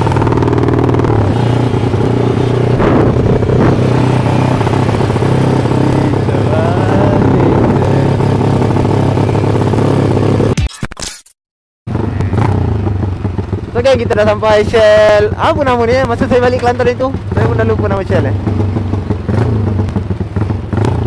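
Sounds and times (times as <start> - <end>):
motorcycle engine running: 0.0 - 10.6, 11.9 - 21.0
road and wind noise: 0.0 - 10.6, 11.9 - 21.0.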